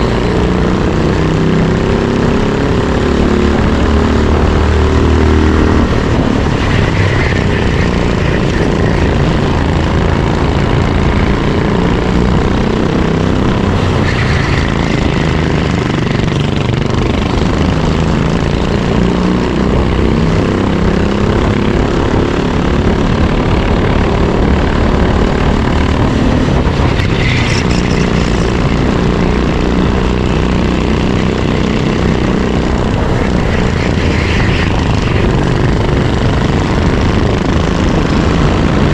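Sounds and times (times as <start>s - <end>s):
racing kart engine: 0.0s - 38.9s.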